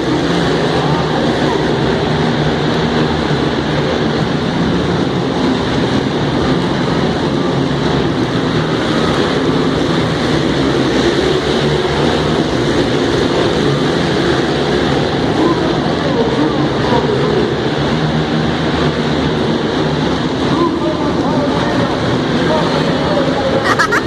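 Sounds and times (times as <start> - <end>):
monster truck engines running: 0.0 - 24.0.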